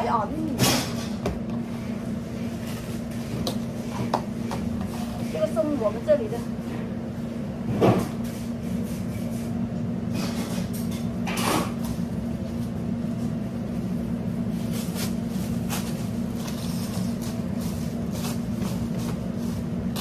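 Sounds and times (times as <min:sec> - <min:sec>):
kitchen equipment hum: 0:00.0 - 0:20.0.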